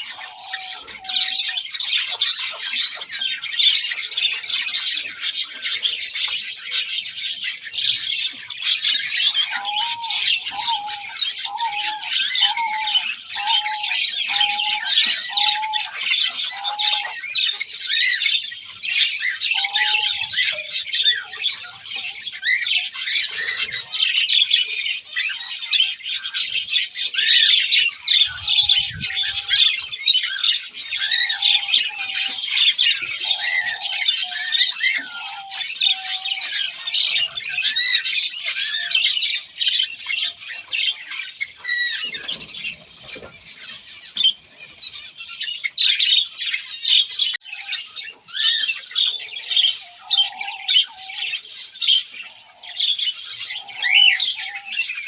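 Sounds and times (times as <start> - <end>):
caged birds chirping and squawking: 0.0 - 55.0.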